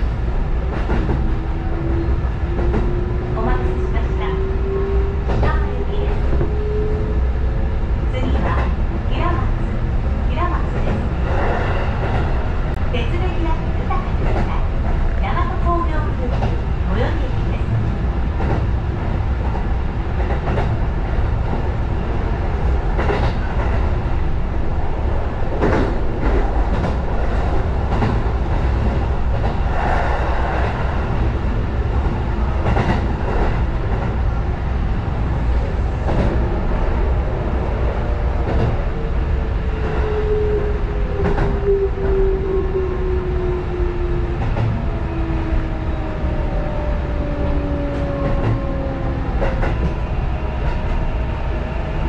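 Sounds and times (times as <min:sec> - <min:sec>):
train low rumble: 0:00.0 - 0:52.0.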